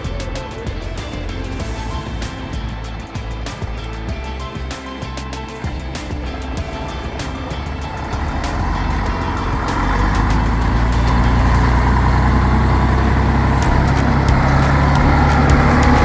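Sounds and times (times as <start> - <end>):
diesel engine working under load: 0.0 - 16.0.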